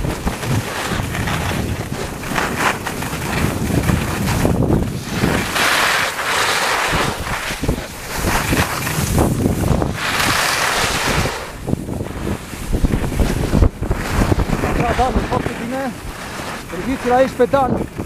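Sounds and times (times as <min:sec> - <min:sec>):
snowboard edges scraping snow: 0:00.0 - 0:18.0
wind buffeting microphone: 0:00.0 - 0:18.0.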